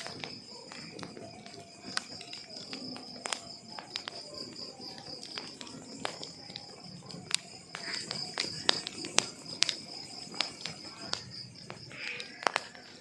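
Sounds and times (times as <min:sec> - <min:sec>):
logs crackling and popping: 0:00.0 - 0:13.0.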